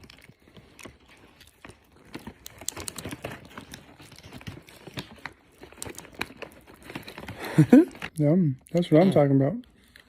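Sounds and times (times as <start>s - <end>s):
pet chewing and crunching: 0.0s - 10.0s.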